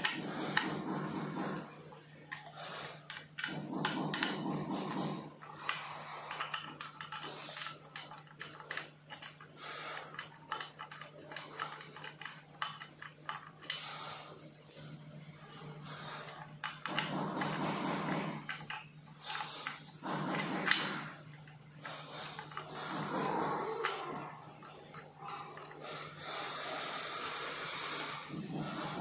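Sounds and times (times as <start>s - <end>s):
hex key clicking and scraping on metal: 0.0s - 29.0s.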